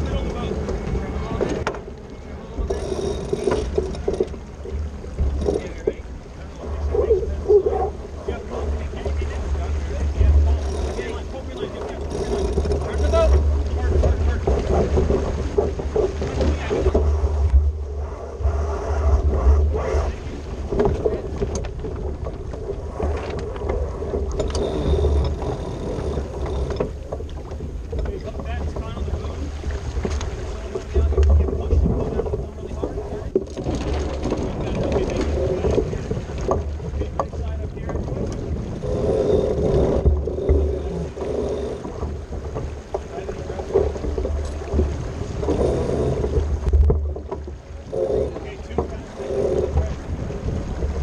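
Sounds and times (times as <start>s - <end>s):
water rushing past boat hull: 0.0s - 51.0s
wind buffeting microphone: 0.0s - 51.0s.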